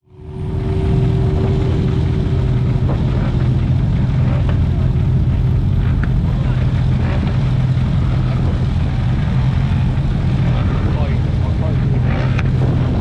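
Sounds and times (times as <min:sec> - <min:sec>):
thin steady whine: 0:00.0 - 0:13.0
vehicle engine running: 0:00.0 - 0:13.0.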